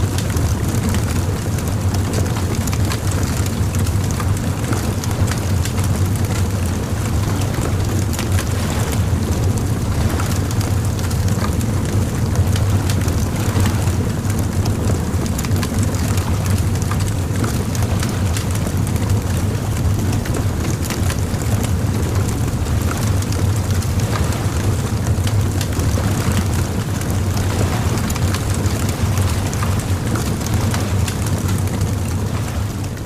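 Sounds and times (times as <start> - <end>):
bonfire crackling and popping: 0.1 - 33.0.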